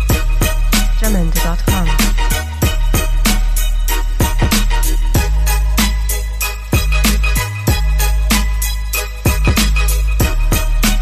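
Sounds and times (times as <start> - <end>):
hip hop beat with heavy bass: 0.0 - 11.0.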